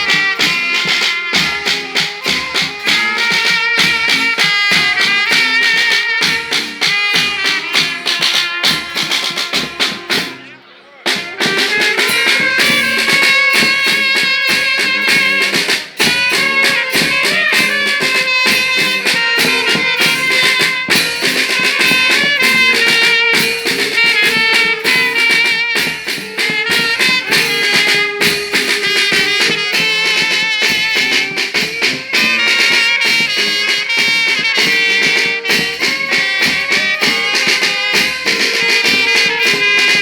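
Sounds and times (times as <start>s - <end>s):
steady drum beat: 0.0s - 40.0s
wind instruments holding notes: 0.0s - 40.0s.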